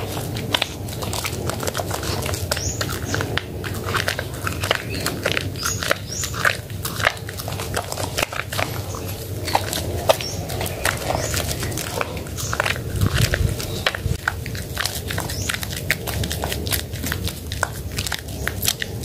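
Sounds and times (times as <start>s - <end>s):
soapy lather squelching: 0.0s - 19.0s.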